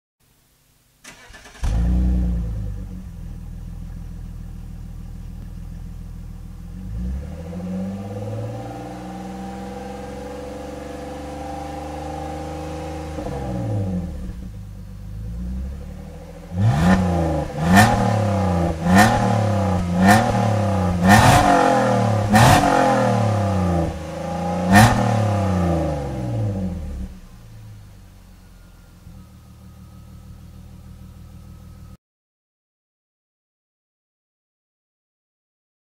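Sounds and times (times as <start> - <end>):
car engine revving and idling: 1.3 - 32.0.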